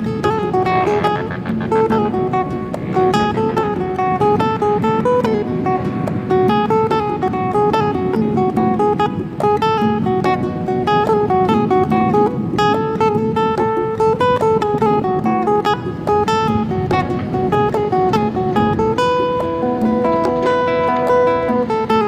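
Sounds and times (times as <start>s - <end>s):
acoustic guitar picking notes: 0.0s - 22.0s.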